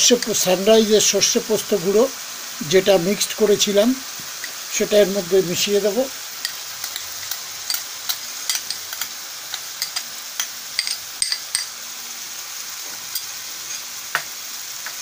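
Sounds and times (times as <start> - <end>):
stems sizzling in oil: 0.0 - 15.0.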